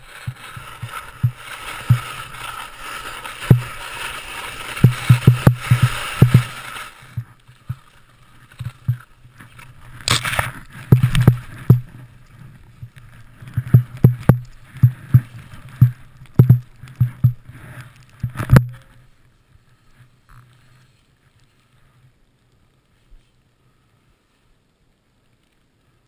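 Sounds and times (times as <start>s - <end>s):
skis hissing through snow: 0.0s - 16.8s, 17.4s - 18.1s, 18.8s - 24.7s
rush of snow: 0.0s - 26.0s.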